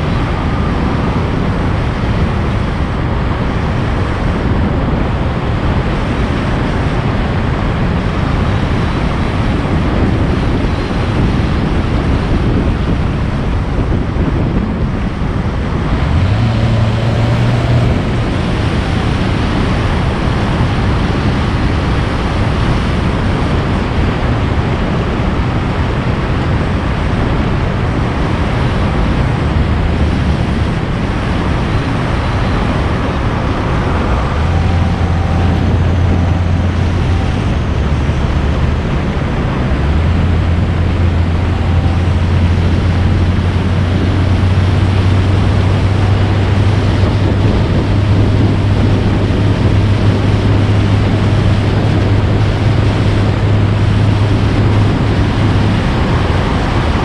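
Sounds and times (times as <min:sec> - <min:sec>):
low engine hum: 0:00.0 - 0:57.0
road and wind noise: 0:00.0 - 0:57.0.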